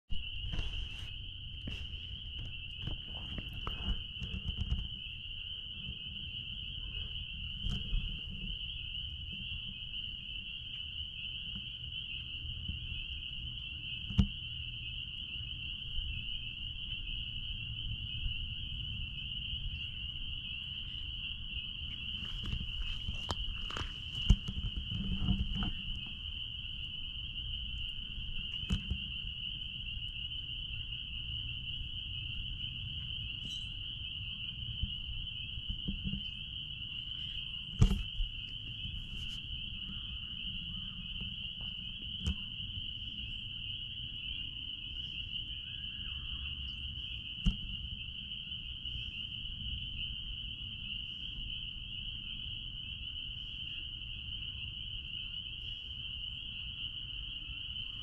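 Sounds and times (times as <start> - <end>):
spring peepers calling: 0.1 - 58.0.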